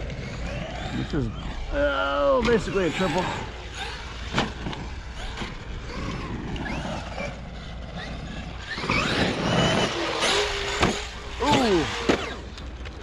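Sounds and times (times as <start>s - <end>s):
rc truck electric motor whining: 0.0s - 13.0s.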